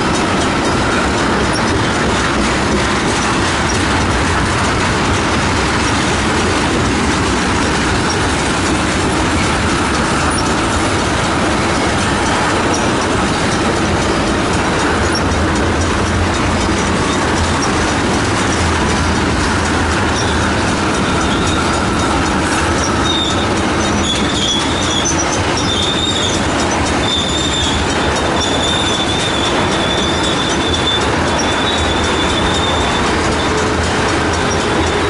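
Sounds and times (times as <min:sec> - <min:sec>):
high wheel squeal: 0:00.0 - 0:35.0
train wheels rumbling on rails: 0:00.0 - 0:35.0.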